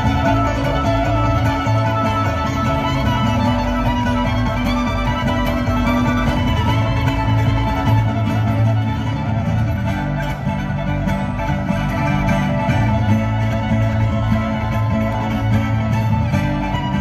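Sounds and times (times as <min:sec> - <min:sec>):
bluegrass string band playing: 0:00.0 - 0:17.0.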